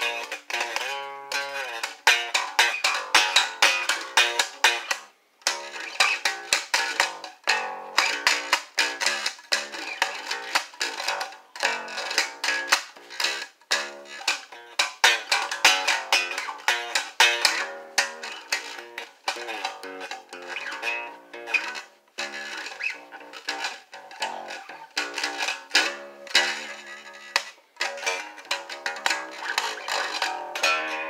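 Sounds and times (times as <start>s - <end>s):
plucked string instrument: 0.0s - 31.0s.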